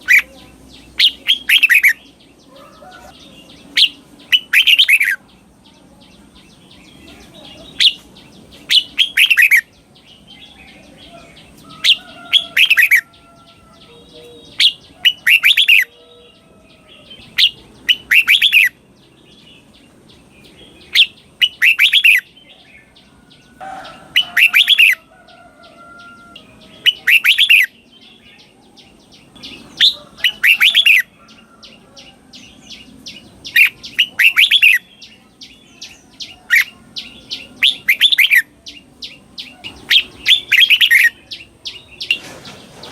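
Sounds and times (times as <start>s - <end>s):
bird singing: 0.0s - 42.9s
faint bird chirps: 0.0s - 42.9s.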